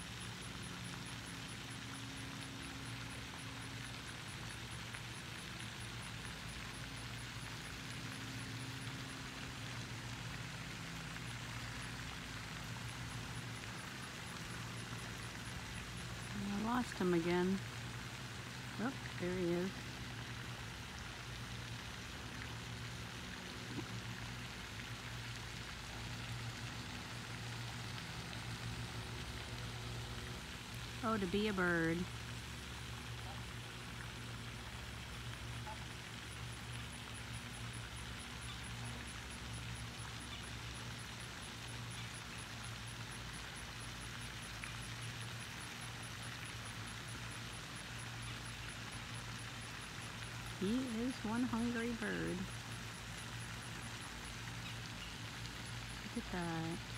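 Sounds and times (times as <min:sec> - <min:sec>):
constant hiss: 0:00.0 - 0:56.9
fountain water splashing: 0:00.0 - 0:56.9
low steady hum: 0:00.0 - 0:56.9.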